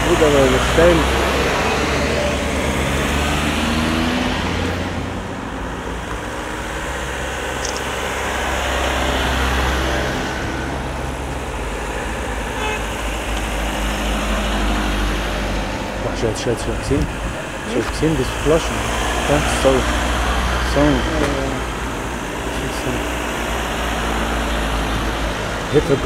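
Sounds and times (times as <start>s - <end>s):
cars and motorcycles driving past: 0.0s - 26.0s.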